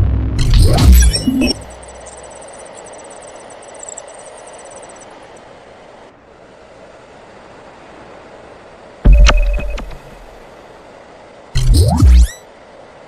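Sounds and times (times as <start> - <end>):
faint high-pitched whine: 0.0 - 13.0.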